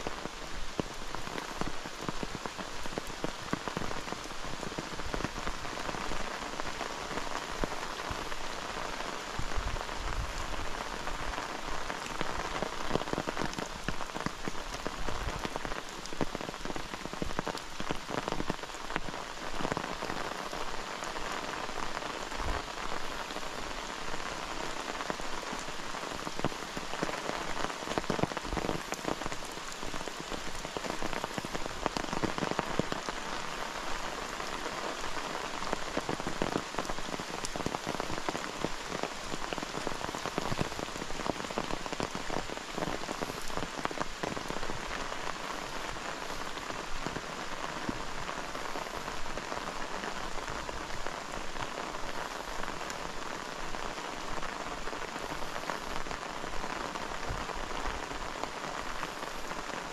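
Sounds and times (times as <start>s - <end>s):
raindrops hitting close: 0.0s - 59.9s
steady rain falling: 0.0s - 59.9s.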